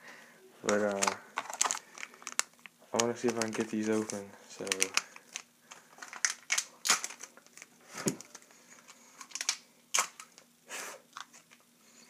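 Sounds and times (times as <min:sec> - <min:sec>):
plastic packaging clicking and crackling: 0:00.6 - 0:10.5.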